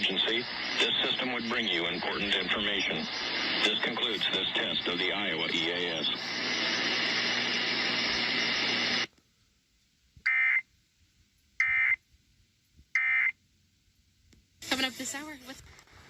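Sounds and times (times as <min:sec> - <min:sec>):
static with hum: 0:00.0 - 0:16.0.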